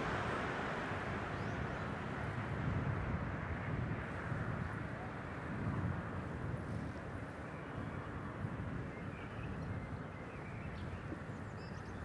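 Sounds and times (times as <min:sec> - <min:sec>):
wind and rolling noise: 0:00.0 - 0:12.0.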